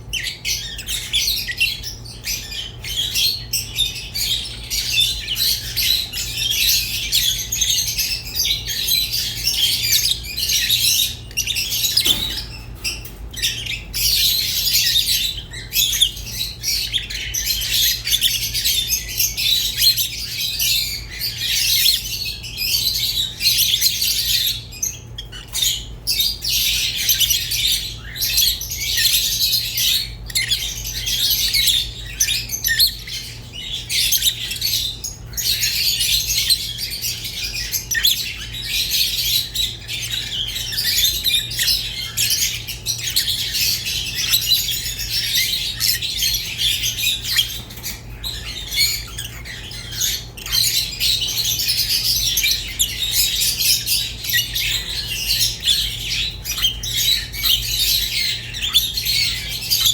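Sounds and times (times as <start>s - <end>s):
budgerigars chattering and warbling: 0.1s - 59.9s.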